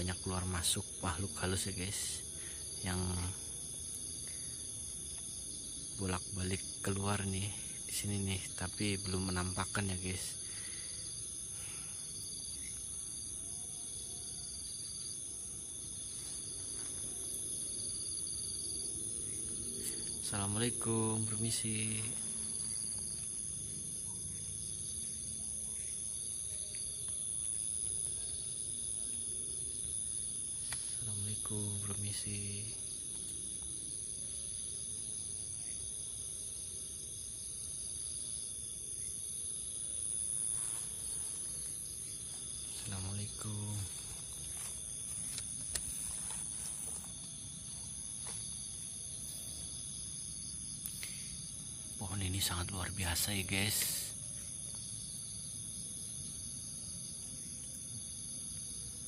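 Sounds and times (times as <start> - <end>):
crickets trilling: 0.0 - 59.0
insects chirping: 0.0 - 59.0.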